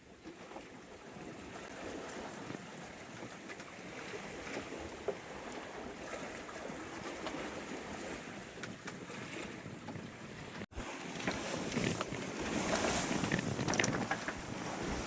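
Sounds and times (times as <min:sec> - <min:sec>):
water splashing along hull: 0:00.0 - 0:15.0
wind: 0:00.0 - 0:15.0.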